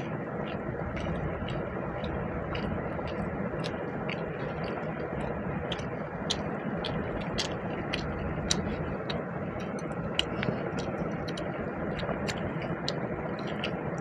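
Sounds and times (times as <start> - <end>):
chewing and mouth sounds: 0.0 - 14.0
steady background noise: 0.0 - 14.0.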